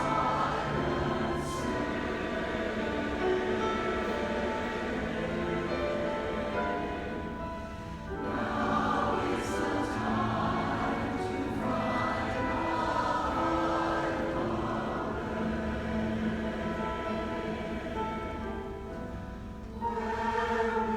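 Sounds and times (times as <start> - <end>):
choir singing: 0.0 - 20.9.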